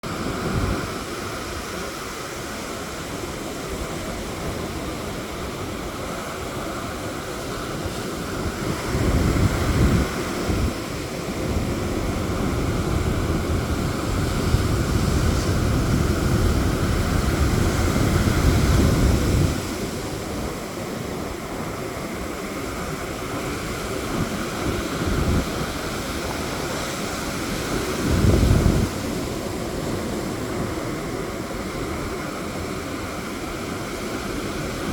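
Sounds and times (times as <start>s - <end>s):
low rumbling wave surges: 0.0s - 34.9s
surf washing onto beach: 0.0s - 34.9s.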